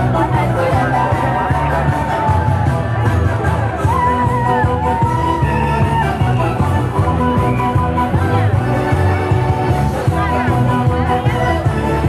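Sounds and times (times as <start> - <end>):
pulsing bass rhythm: 0.0 - 12.0.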